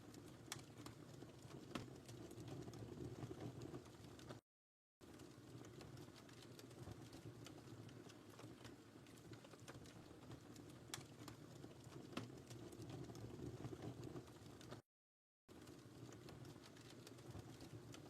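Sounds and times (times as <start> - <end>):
wood fire crackling: 0.0 - 4.4, 5.0 - 14.8, 15.5 - 18.0.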